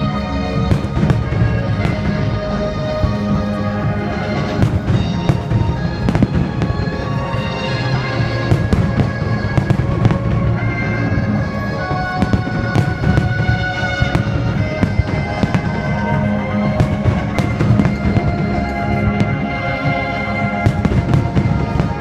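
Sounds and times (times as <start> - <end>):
fireworks bursting and crackling: 0.0 - 22.0
music with long held notes: 0.0 - 22.0.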